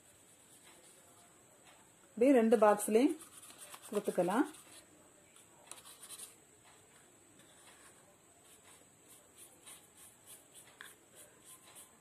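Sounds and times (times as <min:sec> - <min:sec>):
paintbrush dabbing on plastic: 0:00.0 - 0:01.6, 0:03.0 - 0:06.4, 0:07.4 - 0:12.0.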